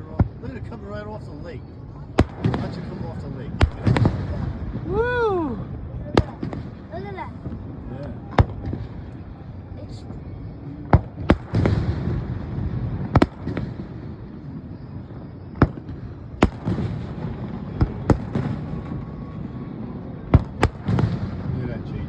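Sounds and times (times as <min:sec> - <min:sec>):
fireworks bangs: 0:00.0 - 0:22.0
rumbling crackle of fireworks: 0:00.0 - 0:22.0.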